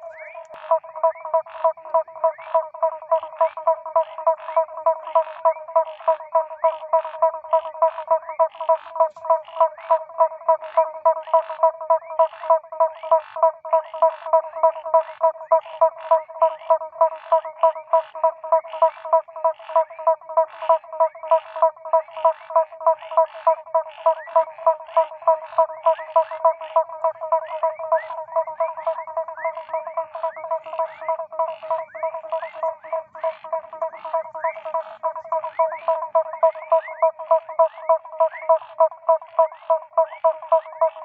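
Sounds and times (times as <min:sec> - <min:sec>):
frogs calling in short notes: 0:00.0 - 0:41.0
frogs rising chirps: 0:00.0 - 0:41.0.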